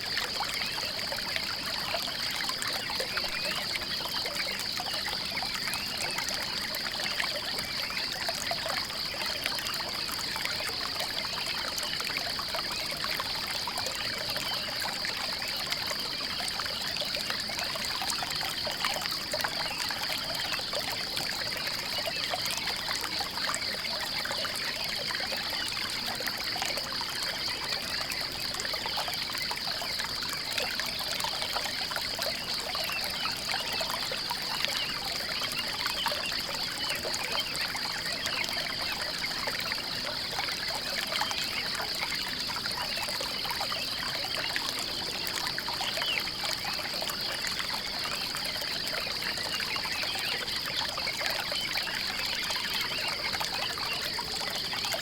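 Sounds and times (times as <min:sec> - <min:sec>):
water trickling and pouring: 0:00.0 - 0:55.0.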